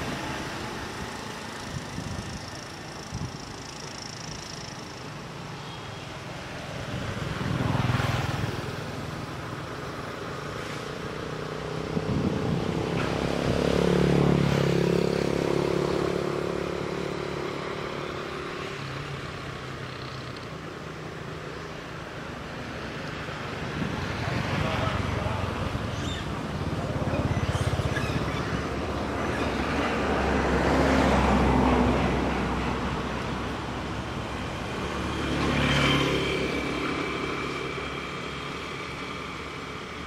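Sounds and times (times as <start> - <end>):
vehicle engines passing by: 0.0 - 40.0.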